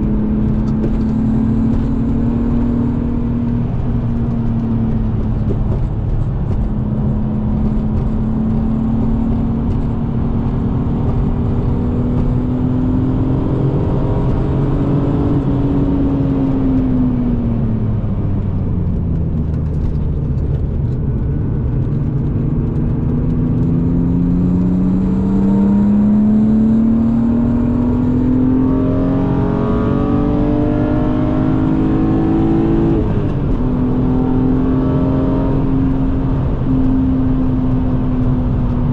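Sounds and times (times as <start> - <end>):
car engine revving under load: 0.0 - 38.9
car road noise: 0.0 - 38.9.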